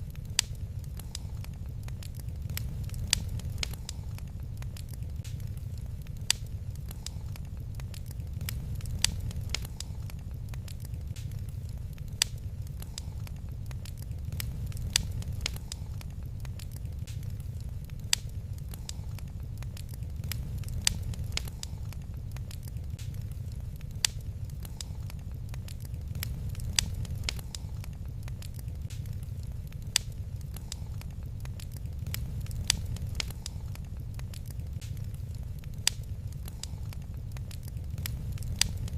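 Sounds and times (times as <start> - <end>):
low steady rumble: 0.0 - 38.9
sharp fire pops: 0.0 - 38.9
wood fire crackling: 0.0 - 38.9.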